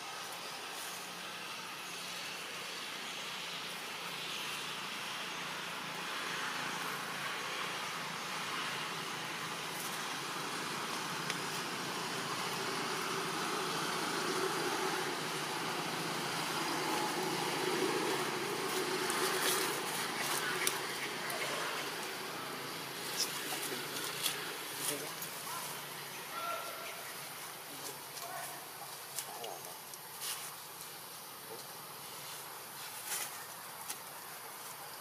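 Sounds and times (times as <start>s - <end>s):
outdoor background hiss: 0.0s - 35.0s.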